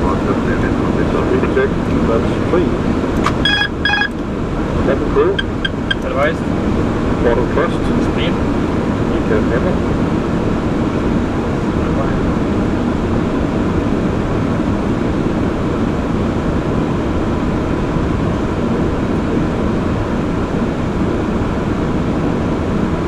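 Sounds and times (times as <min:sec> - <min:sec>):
airflow and aircraft engine noise: 0:00.0 - 0:23.0.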